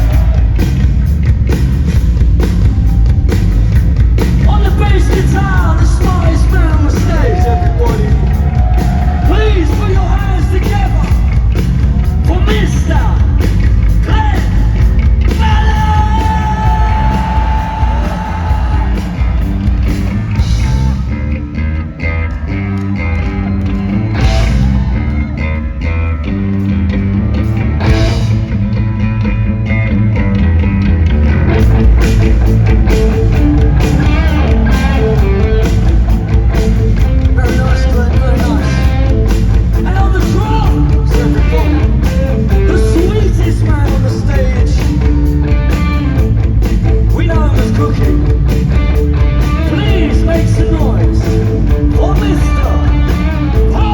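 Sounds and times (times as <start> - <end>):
electric guitar: 0.0 - 53.9
punk rock band playing: 0.0 - 53.9.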